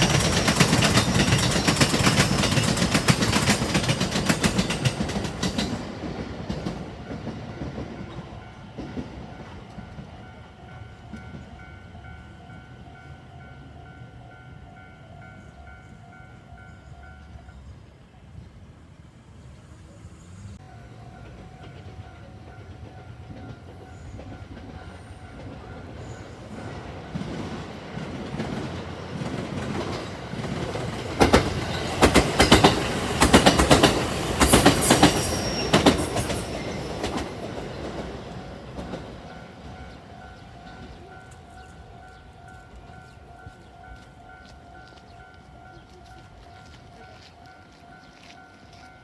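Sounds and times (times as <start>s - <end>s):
crossing warning bell: 0.0s - 17.9s, 20.6s - 49.0s
train passing: 0.0s - 49.0s.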